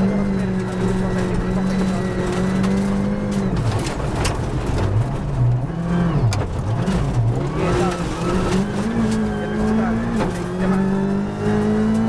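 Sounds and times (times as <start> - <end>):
rally car engine downshifting: 0.0 - 12.0.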